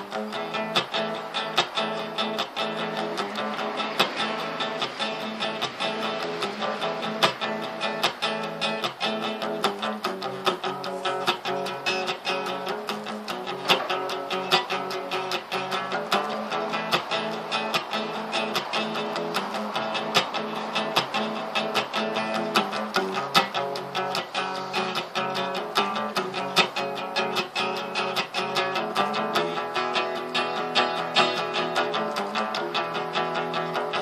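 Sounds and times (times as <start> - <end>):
acoustic guitar plucked: 0.0 - 34.0.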